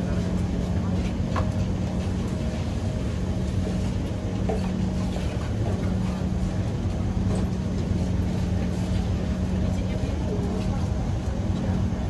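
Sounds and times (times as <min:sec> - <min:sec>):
low pitched motor hum: 0:00.0 - 0:12.0
train interior rumble: 0:00.0 - 0:12.0.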